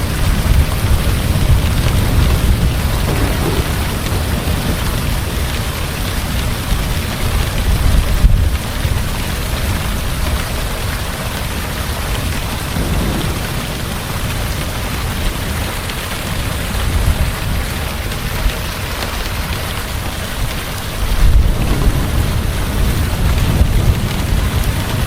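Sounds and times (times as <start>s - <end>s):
low thunder rumble: 0.0s - 10.7s, 11.4s - 17.9s, 20.9s - 25.0s
heavy rain: 0.0s - 25.0s.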